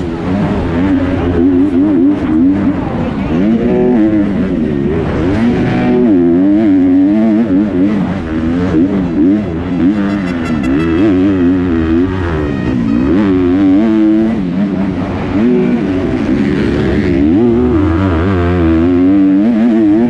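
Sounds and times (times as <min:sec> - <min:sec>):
motocross bike engine revving: 0:00.0 - 0:20.0.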